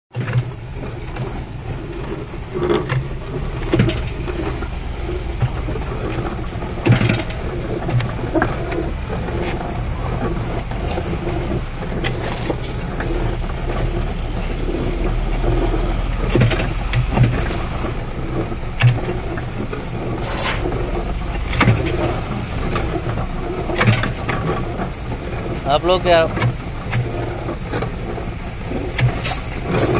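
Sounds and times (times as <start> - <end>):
concrete mixer churning: 0.1 - 29.9.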